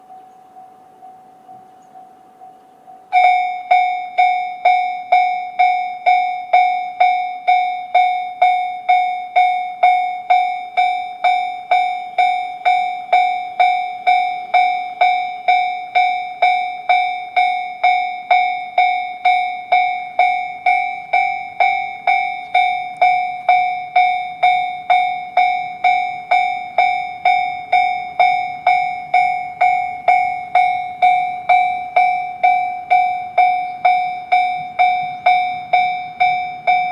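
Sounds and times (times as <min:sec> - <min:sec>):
level crossing warning bell: 0:00.0 - 0:36.9.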